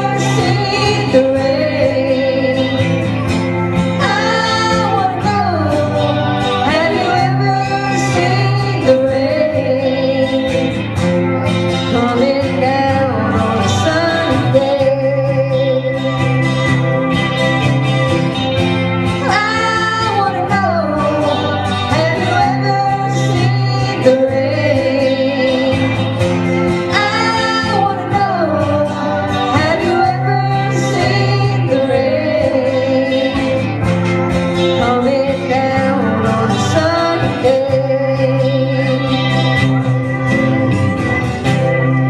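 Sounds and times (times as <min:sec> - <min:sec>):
live country-rock band playing: 0:00.0 - 0:42.0.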